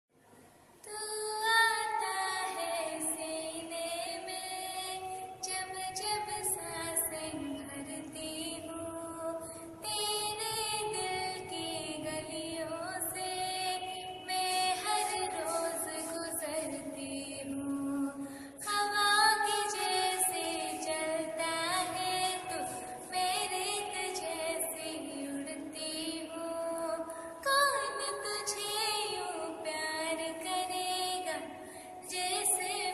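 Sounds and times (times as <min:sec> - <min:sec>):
girl singing slow melody: 0:00.8 - 0:32.9.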